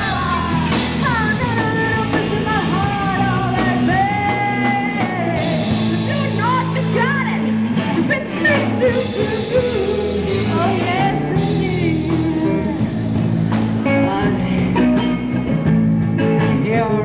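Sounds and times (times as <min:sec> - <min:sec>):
women singing: 0:00.0 - 0:13.0, 0:13.8 - 0:15.3, 0:16.5 - 0:17.0
electric guitar: 0:00.0 - 0:17.0
rhythm section: 0:00.0 - 0:17.0.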